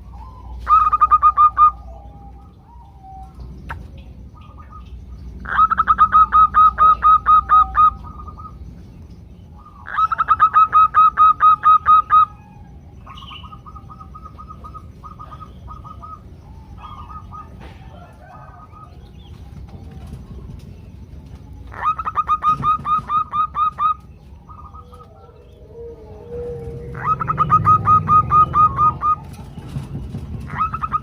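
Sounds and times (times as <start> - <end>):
doves calling staccato notes: 0.0 - 31.0.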